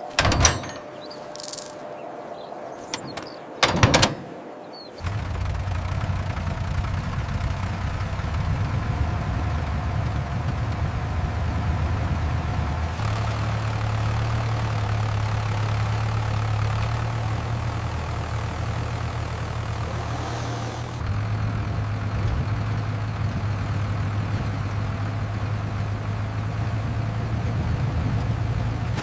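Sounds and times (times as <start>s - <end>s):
heavy engine humming: 0.0s - 29.0s.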